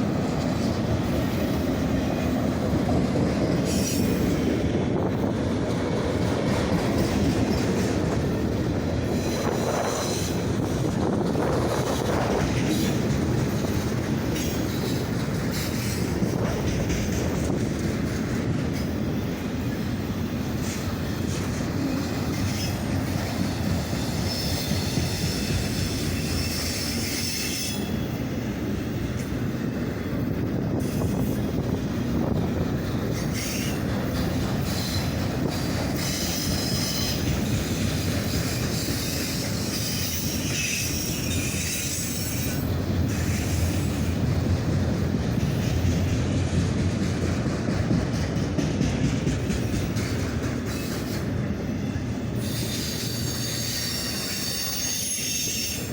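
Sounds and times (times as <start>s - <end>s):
train wheels squealing: 0.0s - 46.4s, 47.8s - 55.9s
freight train rumbling past: 0.0s - 55.9s.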